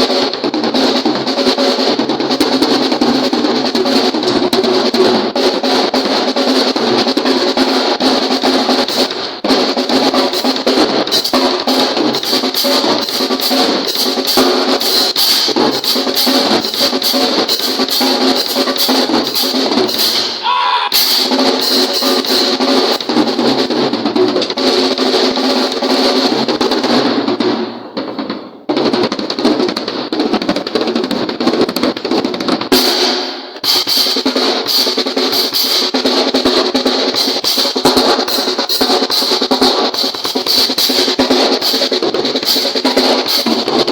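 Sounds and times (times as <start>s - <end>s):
drum kit playing fast snare strokes: 0.0s - 43.9s.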